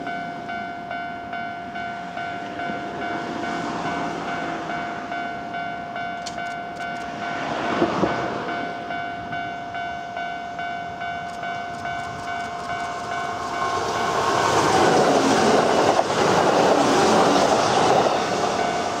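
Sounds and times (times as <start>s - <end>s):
pulsing electronic ringing: 0.0s - 15.9s
electric train passing: 0.0s - 19.0s.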